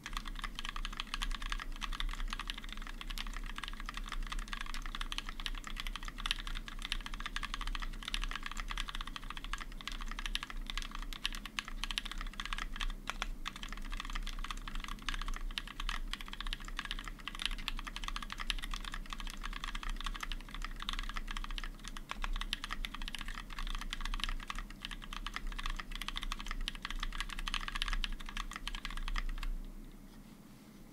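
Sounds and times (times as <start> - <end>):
fast typing on mechanical keyboard: 0.0 - 29.6.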